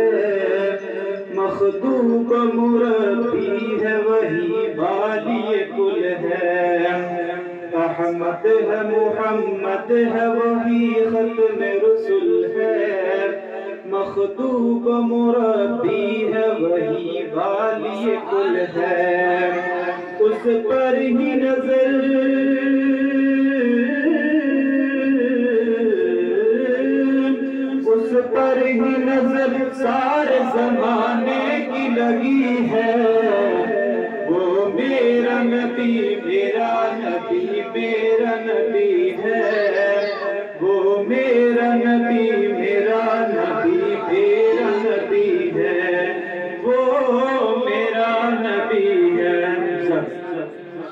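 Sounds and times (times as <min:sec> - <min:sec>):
man singing unaccompanied: 0:00.0 - 0:50.9.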